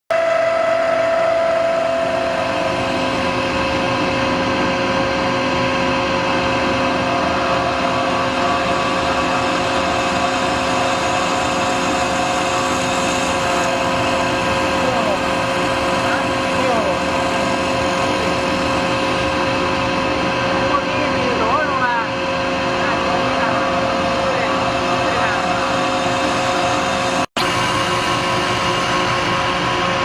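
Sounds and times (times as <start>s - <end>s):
wood-turning lathe whine: 0.1s - 30.0s.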